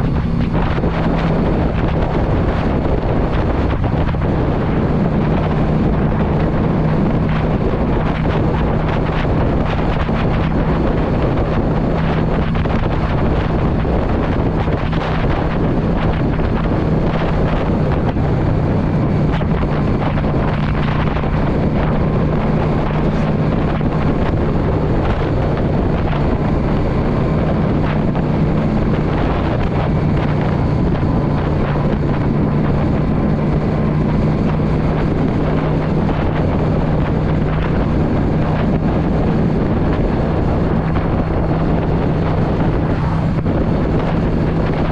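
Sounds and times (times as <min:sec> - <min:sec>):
motorcycle engine cruising: 0:00.0 - 0:44.9
wind rushing over microphone: 0:00.0 - 0:44.9.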